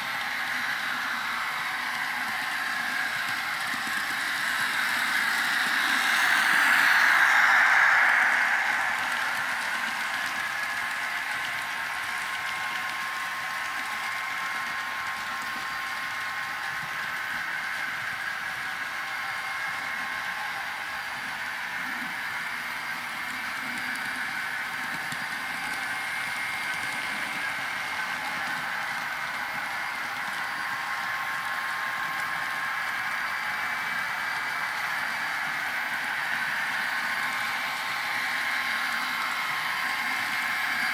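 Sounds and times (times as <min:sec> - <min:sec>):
tinny model locomotive sound: 0:00.0 - 0:40.9.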